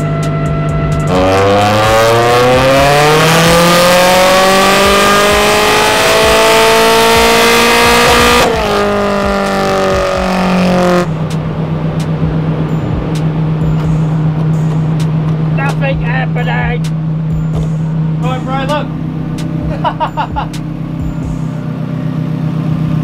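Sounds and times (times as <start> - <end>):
turbocharged engine revving: 0.0 - 23.0.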